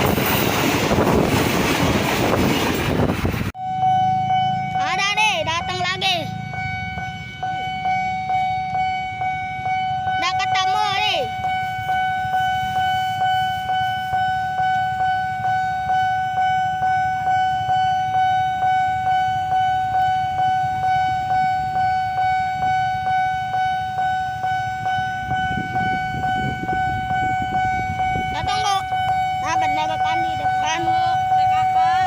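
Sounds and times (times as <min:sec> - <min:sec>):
level crossing warning bell ringing: 0:03.6 - 0:32.0.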